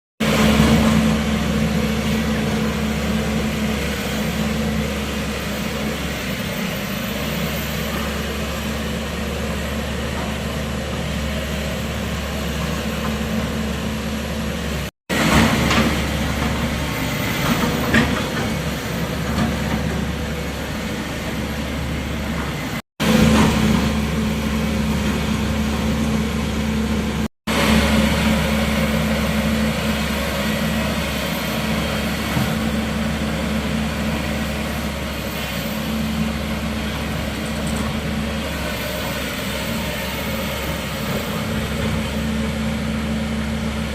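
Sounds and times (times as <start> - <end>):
excavator engine running: 0.2 - 43.9.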